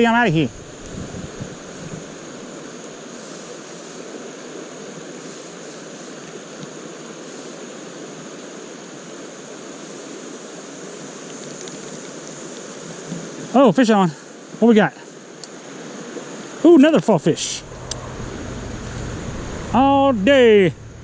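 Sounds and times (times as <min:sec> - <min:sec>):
creek running over rocks: 0:00.0 - 0:21.0.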